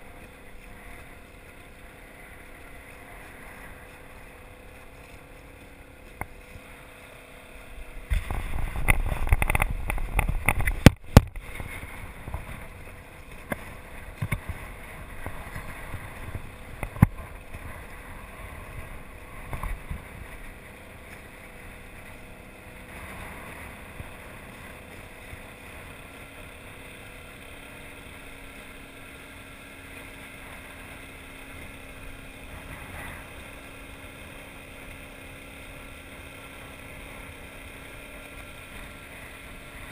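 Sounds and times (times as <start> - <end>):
low steady motor hum: 0.0 - 39.9
wind: 0.0 - 39.9.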